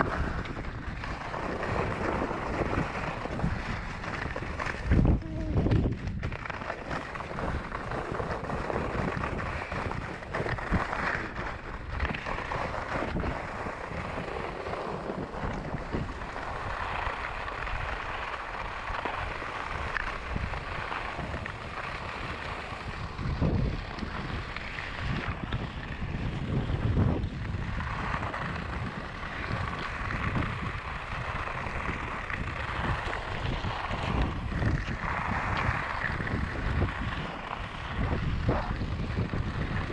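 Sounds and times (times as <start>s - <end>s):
skis scraping over snow: 0.0s - 39.9s
wind rushing over microphone: 0.0s - 39.9s.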